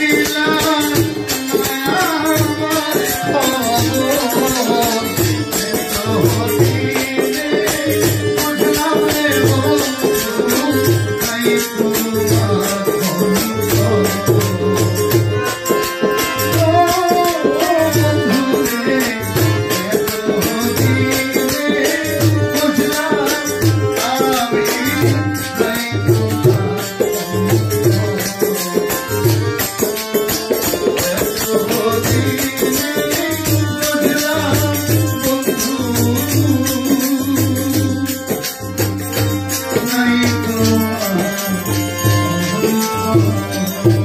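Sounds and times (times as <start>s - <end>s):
hand drum beating: 0.0s - 44.0s
jingling percussion: 0.0s - 44.0s
man singing: 0.0s - 44.0s.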